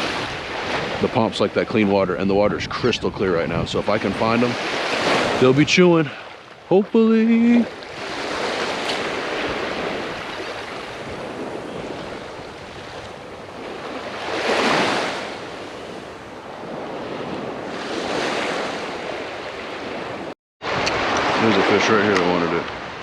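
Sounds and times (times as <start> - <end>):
wind buffeting microphone: 0.0 - 6.8, 7.4 - 23.0
small waves washing on shore: 0.0 - 23.0.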